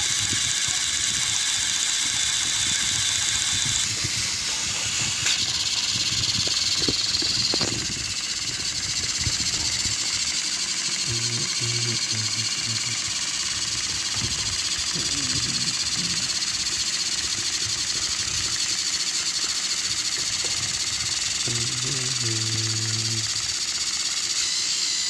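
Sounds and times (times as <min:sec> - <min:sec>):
toy train motors whirring: 0:00.0 - 0:25.0.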